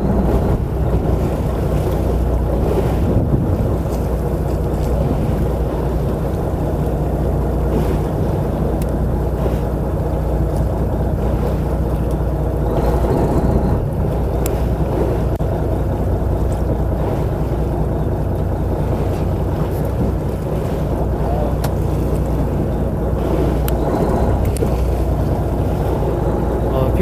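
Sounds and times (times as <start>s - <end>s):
boat engine droning: 0.0s - 27.0s
water splashing: 0.0s - 27.0s
wind: 0.0s - 27.0s.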